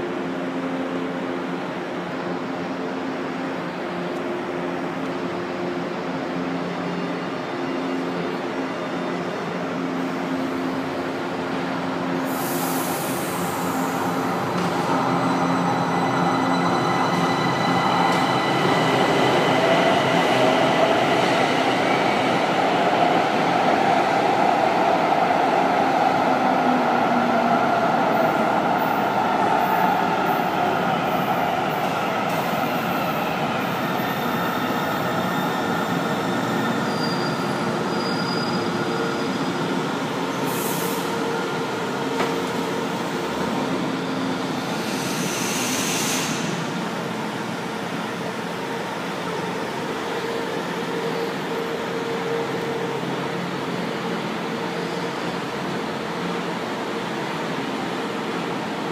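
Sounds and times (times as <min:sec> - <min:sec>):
subway trains rumbling and whining: 0:00.0 - 0:58.9.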